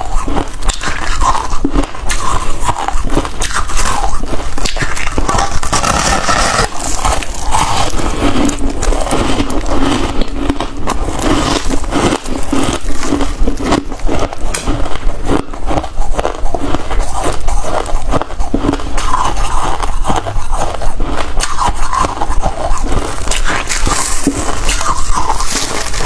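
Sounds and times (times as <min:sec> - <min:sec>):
frost crunching being chewed: 0:00.0 - 0:26.0.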